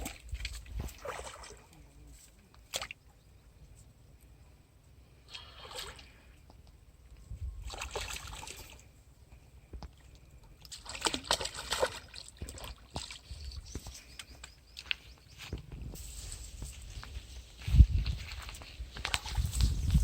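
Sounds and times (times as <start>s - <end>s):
water splashing and sloshing: 0.0s - 3.1s, 5.2s - 6.5s, 7.6s - 9.1s, 9.7s - 20.0s.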